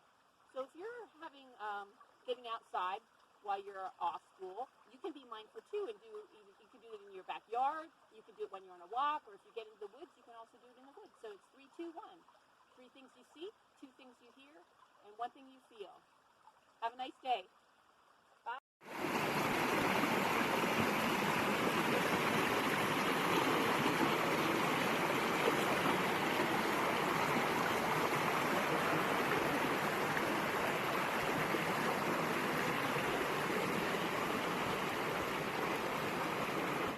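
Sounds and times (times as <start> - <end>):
woodland stream babbling: 0.0 - 36.9.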